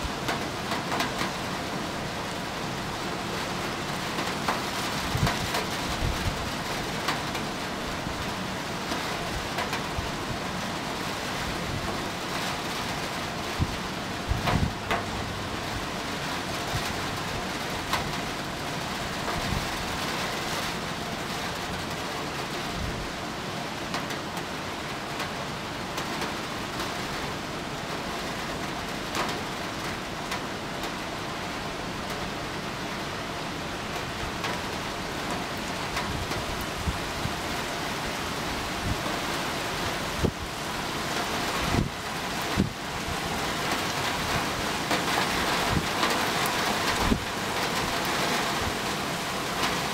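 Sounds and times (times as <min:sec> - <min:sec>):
rain falling steadily: 0:00.0 - 0:49.9.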